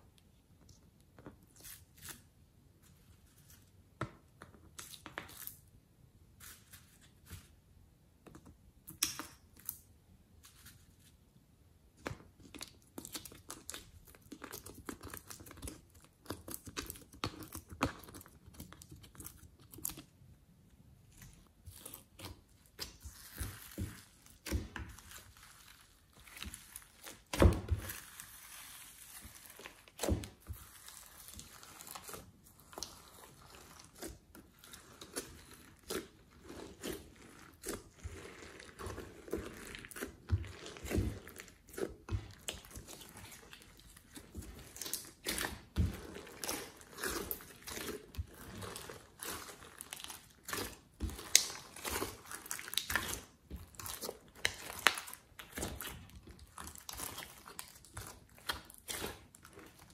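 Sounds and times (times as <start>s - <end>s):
slime squishing: 11.8s - 59.9s.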